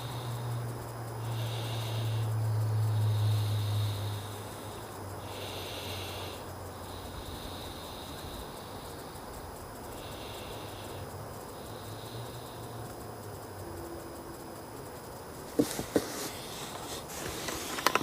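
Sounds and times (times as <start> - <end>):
insects buzzing: 0.0 - 18.0
steady low hum: 0.0 - 18.0.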